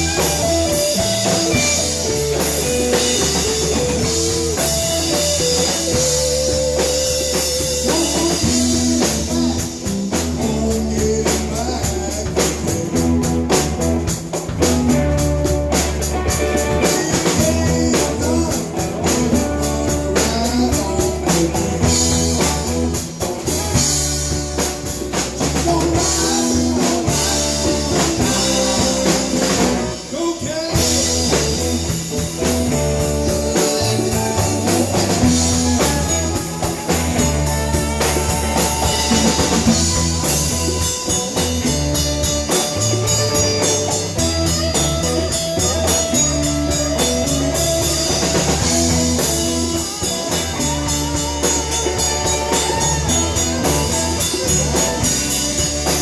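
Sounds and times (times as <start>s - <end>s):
drum kit: 0.0s - 56.0s
electric guitar: 0.0s - 56.0s
walking bass line: 0.0s - 56.0s.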